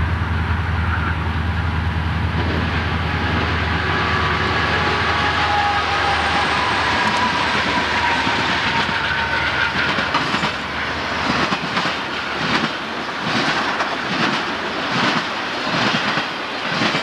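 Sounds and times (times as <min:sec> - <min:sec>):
diesel locomotive engine drone: 0:00.0 - 0:17.0
train wheels clicking over rail joints: 0:02.3 - 0:17.0.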